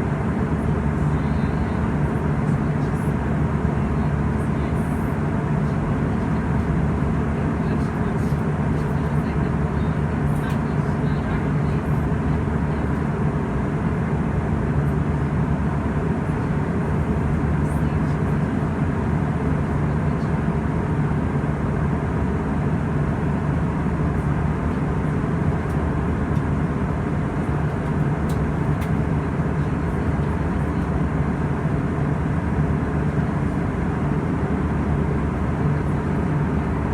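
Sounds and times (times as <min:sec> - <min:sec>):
airplane cabin engine drone: 0:00.0 - 0:36.9.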